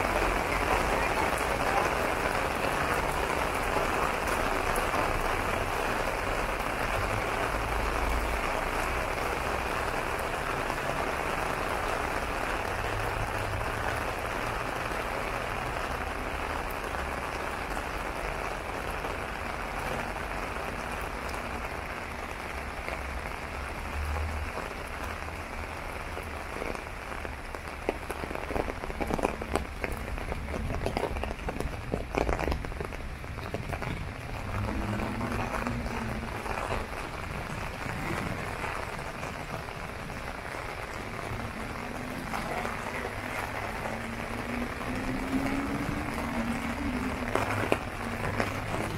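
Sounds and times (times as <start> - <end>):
heavy rain on umbrella and paving: 0.0 - 48.9
large raindrops tapping: 0.0 - 48.9.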